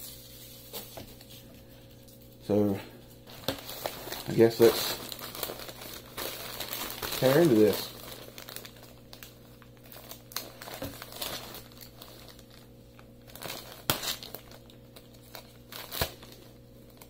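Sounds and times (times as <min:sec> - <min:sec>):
packaging crinkling and rustling: 0:03.1 - 0:17.0
packaging ripping: 0:03.3 - 0:17.0.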